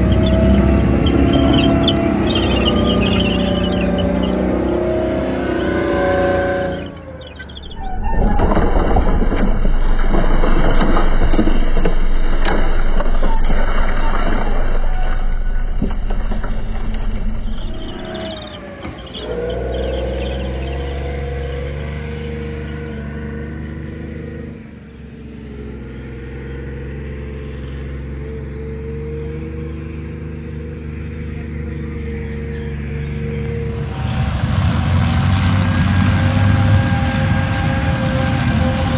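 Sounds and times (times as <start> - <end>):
tank engine rumbling: 0.0 - 38.9.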